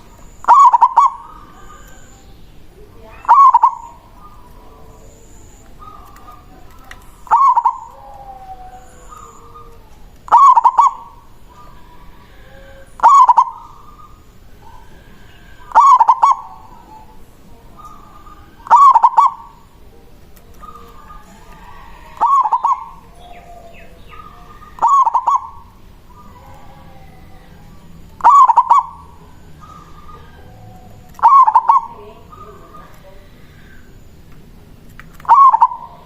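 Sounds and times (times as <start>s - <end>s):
dove cooing: 0.0s - 34.2s, 35.2s - 36.0s
faint bird calls: 0.0s - 34.3s, 35.1s - 36.0s.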